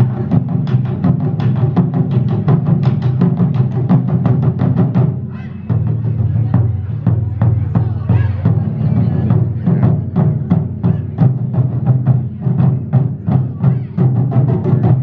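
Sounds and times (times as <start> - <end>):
heavy drum strikes: 0.0 - 15.0.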